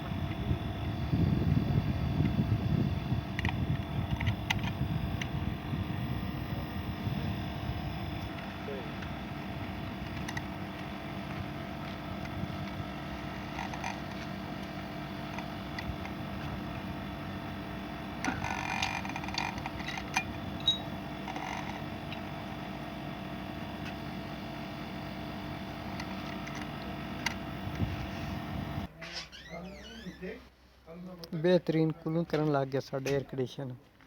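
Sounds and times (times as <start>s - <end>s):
air conditioner humming: 0.0s - 32.7s.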